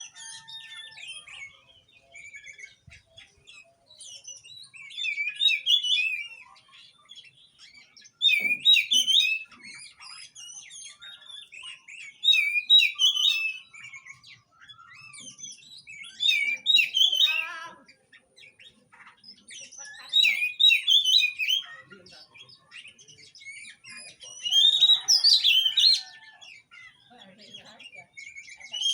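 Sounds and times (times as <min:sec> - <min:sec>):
bird whistled song: 0:00.0 - 0:28.9
soft bird chirps: 0:00.0 - 0:28.9.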